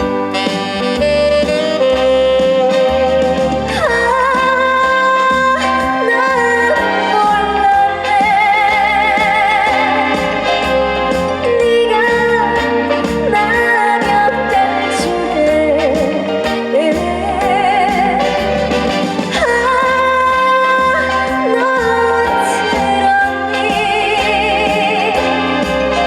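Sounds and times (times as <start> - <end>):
upbeat trot song instrumental: 0.0 - 26.0.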